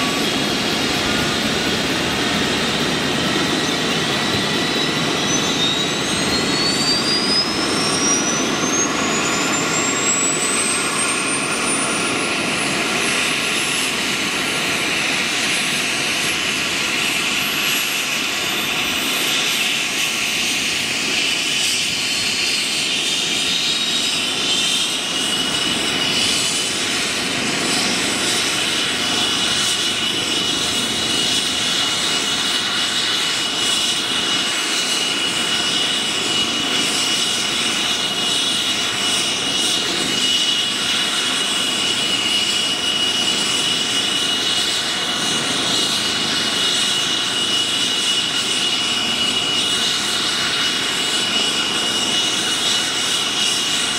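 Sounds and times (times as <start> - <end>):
helicopter turbine and rotor noise: 0.0 - 53.9
high turbine whine: 0.0 - 53.9.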